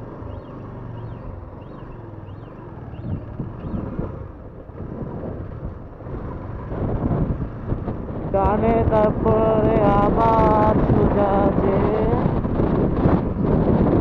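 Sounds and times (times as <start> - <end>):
motorcycle engine running: 0.0 - 14.0
wind on microphone: 2.6 - 14.0.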